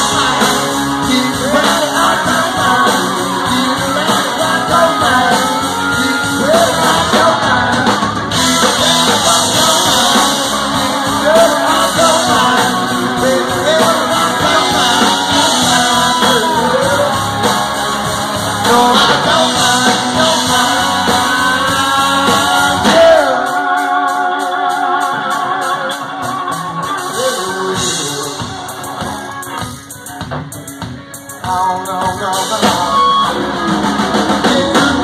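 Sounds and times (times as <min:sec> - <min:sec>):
country rock band playing: 0:00.0 - 0:35.0
electric and acoustic guitars: 0:00.0 - 0:35.0.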